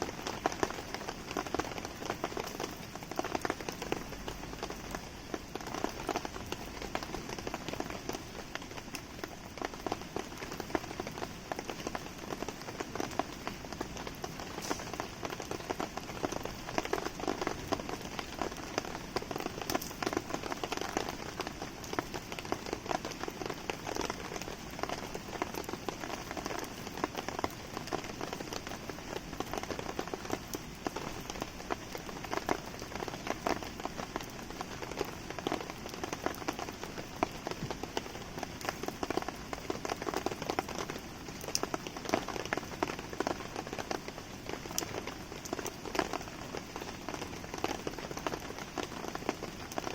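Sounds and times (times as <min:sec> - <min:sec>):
campfire burning: 0:00.0 - 0:49.9
rain falling: 0:00.0 - 0:49.9.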